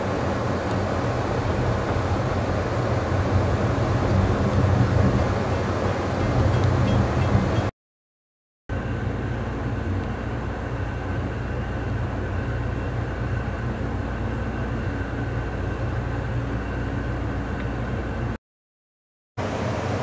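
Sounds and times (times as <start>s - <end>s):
train interior rumble and hum: 0.0s - 7.7s, 8.7s - 18.4s, 19.4s - 20.0s.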